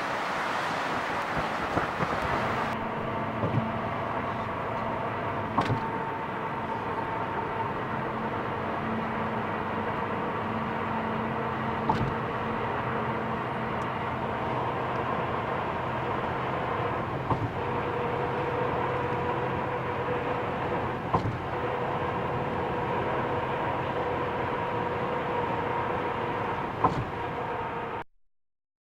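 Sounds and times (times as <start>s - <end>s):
steady engine drone: 0.0s - 28.0s.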